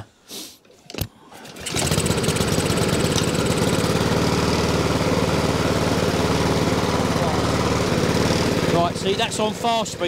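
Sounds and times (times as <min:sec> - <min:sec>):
lawnmower engine running slowly: 0:01.6 - 0:10.0.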